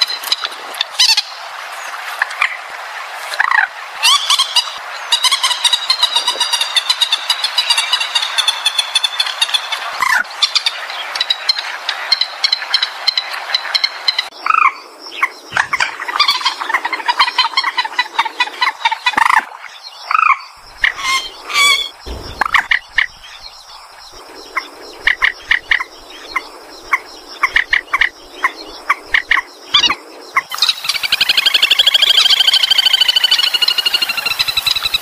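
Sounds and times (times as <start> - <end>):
waterbird calls: 3.4 - 35.0.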